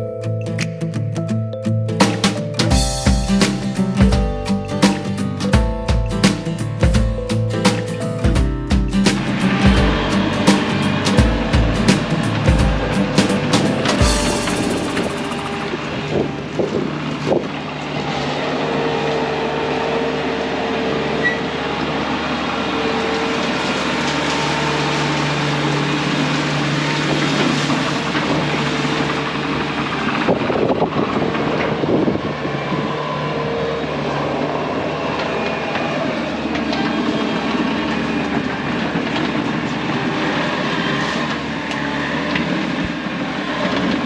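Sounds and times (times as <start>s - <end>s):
track loader diesel engine: 2.0s - 44.0s.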